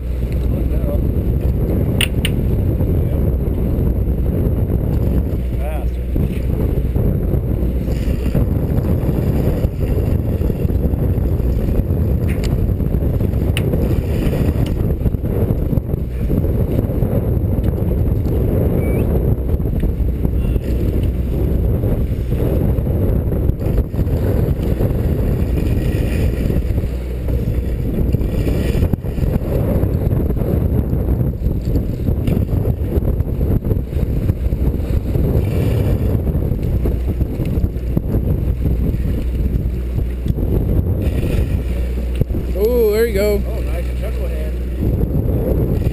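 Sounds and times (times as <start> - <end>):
sea: 0.0 - 45.9
wind on microphone: 0.0 - 45.9.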